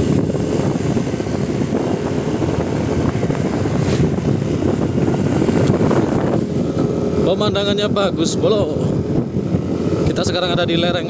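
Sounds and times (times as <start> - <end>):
road noise: 0.0 - 11.0
vehicle engine running: 0.0 - 11.0
wind rumbling on microphone: 0.0 - 11.0.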